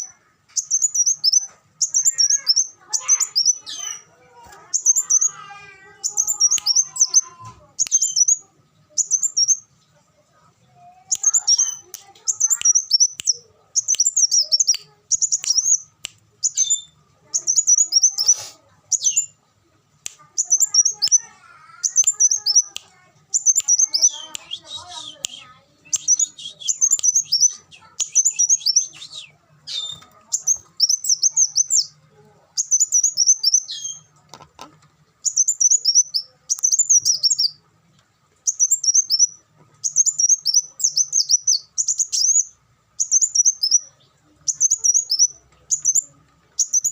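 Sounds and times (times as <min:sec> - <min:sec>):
sunbird twittering chirps: 0:00.0 - 0:09.9, 0:10.7 - 0:19.5, 0:20.2 - 0:32.0, 0:32.6 - 0:34.1, 0:35.2 - 0:37.6, 0:38.4 - 0:46.9.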